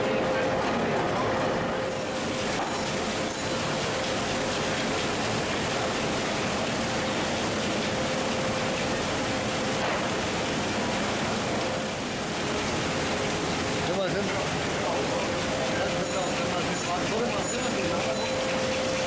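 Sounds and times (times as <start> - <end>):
faint machine hum: 0.0 - 19.0
rushing water and wet pulp: 0.0 - 19.0.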